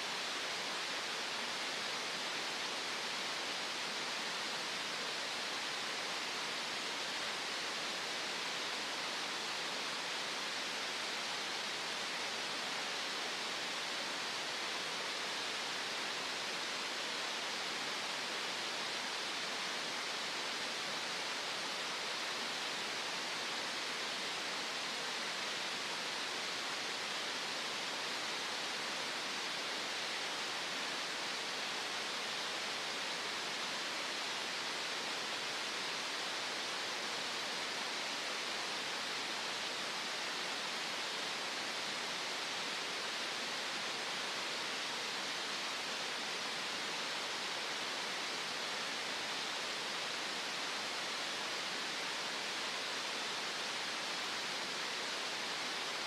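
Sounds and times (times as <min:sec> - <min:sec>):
steady even hiss: 0:00.0 - 0:56.0.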